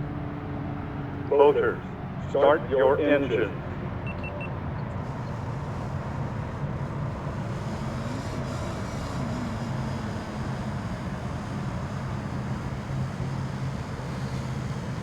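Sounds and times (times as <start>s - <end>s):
racing boat engines droning: 0.0s - 15.0s.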